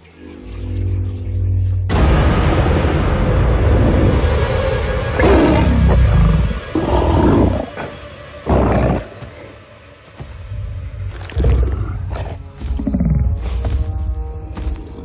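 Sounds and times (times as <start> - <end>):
film score music: 0.0 - 15.0.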